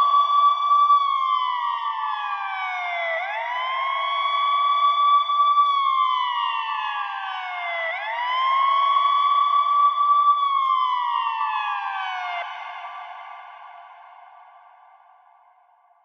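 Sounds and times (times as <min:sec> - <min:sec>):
ambulance siren wailing: 0:00.0 - 0:13.8.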